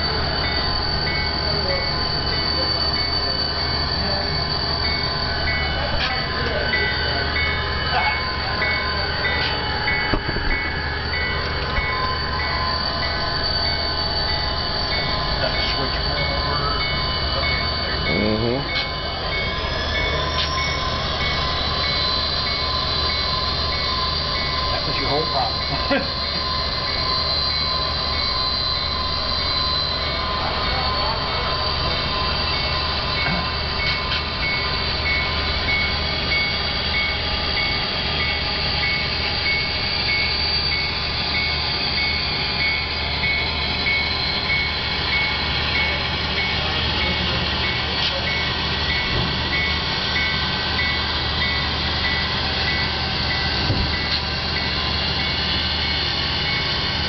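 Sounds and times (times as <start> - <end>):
model train rolling hum: 0.0 - 57.0.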